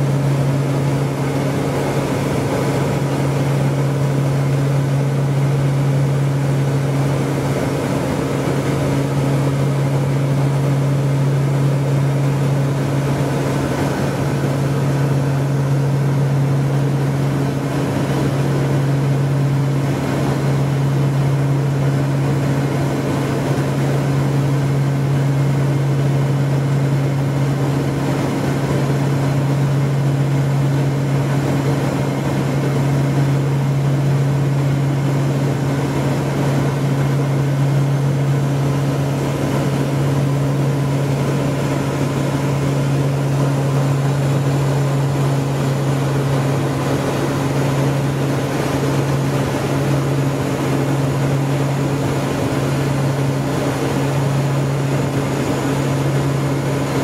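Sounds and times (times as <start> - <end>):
turboprop engines droning in cockpit: 0.0 - 57.0.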